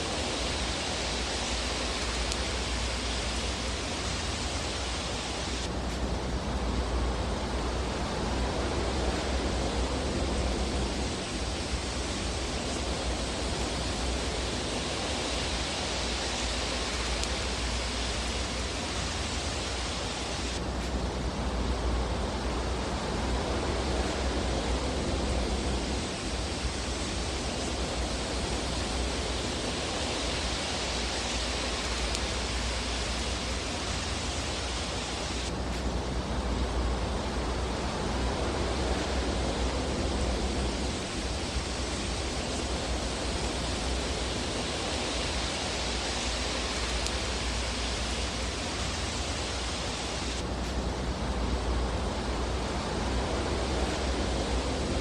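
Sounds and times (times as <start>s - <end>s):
fireplace fire hissing: 0.0s - 55.0s.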